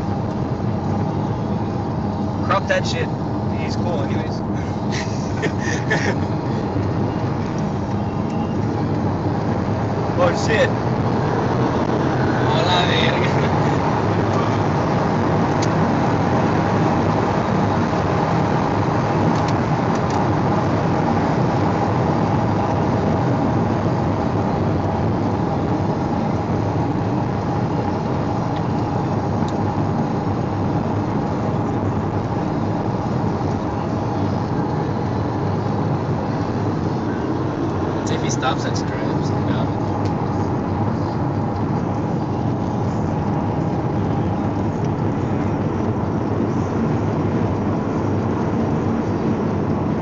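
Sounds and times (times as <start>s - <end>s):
car cabin road and engine noise: 0.0s - 50.0s.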